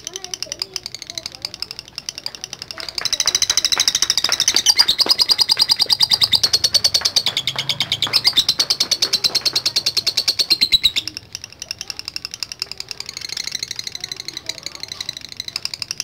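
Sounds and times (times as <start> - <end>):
lovebird chattering trill: 0.0 - 16.0.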